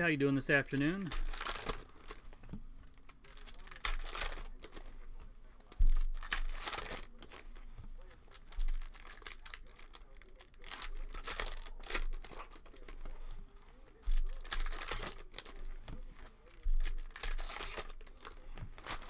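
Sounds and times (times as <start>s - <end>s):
cellophane and foil crinkling: 0.3s - 19.0s.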